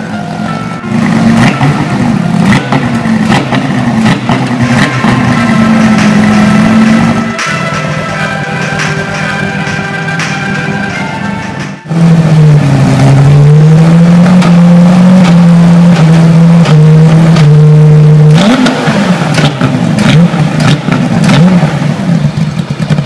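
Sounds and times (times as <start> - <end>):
race car engine revving: 0.0 - 23.0.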